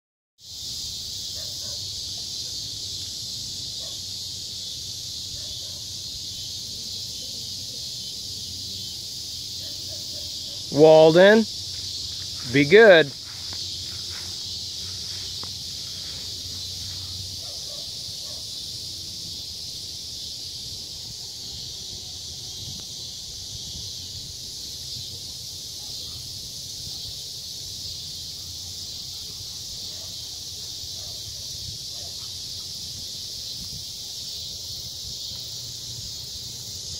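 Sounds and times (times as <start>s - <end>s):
insects chirring: 0.4s - 36.9s.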